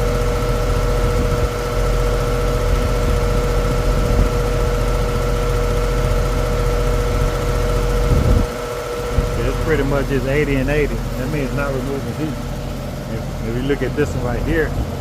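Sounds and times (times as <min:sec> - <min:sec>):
air conditioner fan humming: 0:00.0 - 0:15.0.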